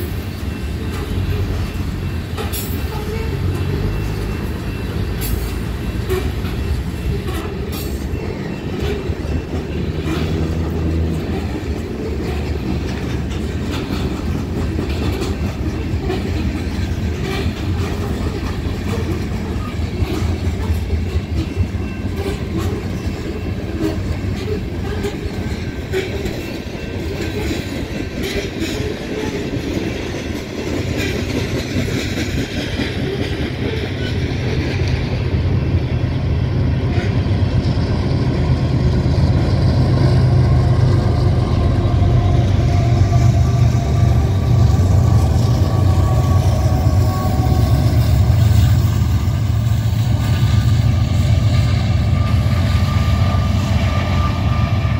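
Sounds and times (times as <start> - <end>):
diesel locomotive drone: 0.0 - 54.9
train wheel clatter: 0.0 - 54.9.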